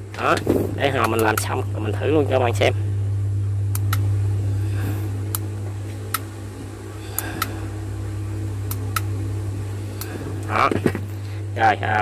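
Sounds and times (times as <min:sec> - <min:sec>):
soldering gun buzzing: 0:00.0 - 0:12.0.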